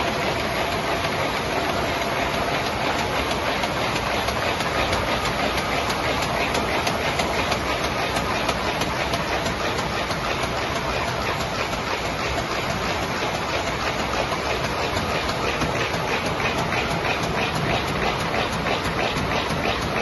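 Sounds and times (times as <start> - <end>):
paper machine running: 0.0 - 20.0.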